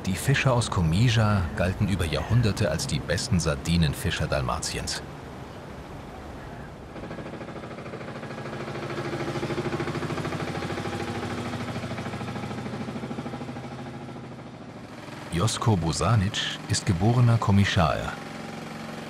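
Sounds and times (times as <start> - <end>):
boat engine chugging: 0.0 - 19.0.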